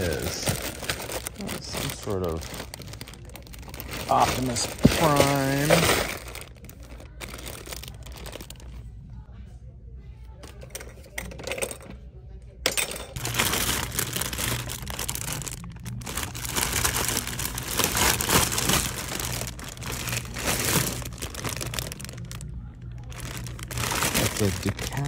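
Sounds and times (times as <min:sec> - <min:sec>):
plastic bags crinkling: 0:00.0 - 0:08.8, 0:13.2 - 0:25.0.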